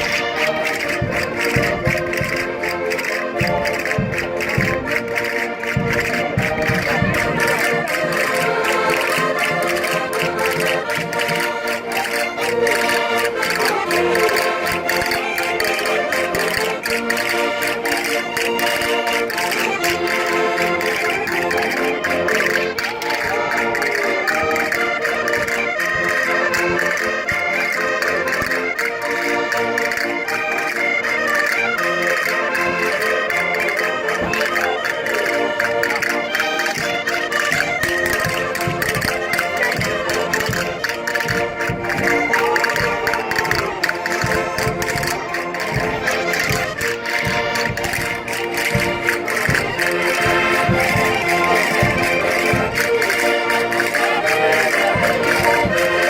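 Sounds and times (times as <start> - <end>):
concertinas playing folk dance: 0.0 - 56.0.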